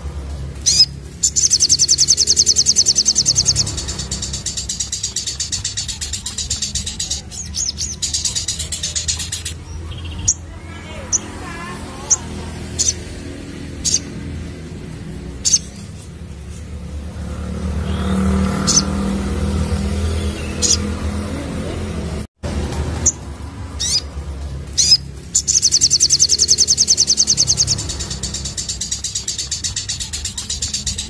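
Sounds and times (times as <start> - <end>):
bird chirping high: 0.6 - 21.3, 23.8 - 31.0.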